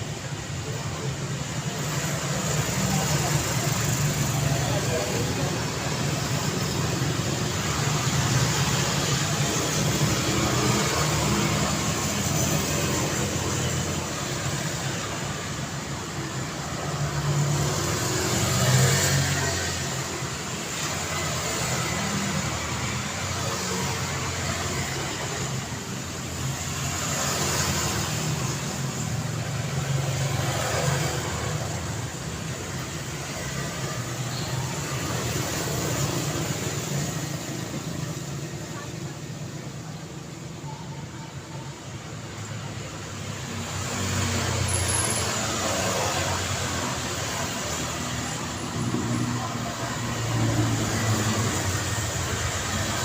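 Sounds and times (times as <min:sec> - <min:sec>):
traffic engine hum: 0:00.0 - 0:53.0
vehicles passing: 0:00.0 - 0:53.0.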